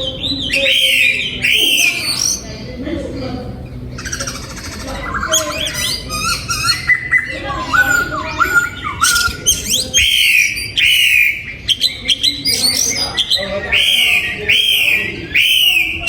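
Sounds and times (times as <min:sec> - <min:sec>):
bird singing: 0:00.0 - 0:02.8, 0:03.5 - 0:16.0.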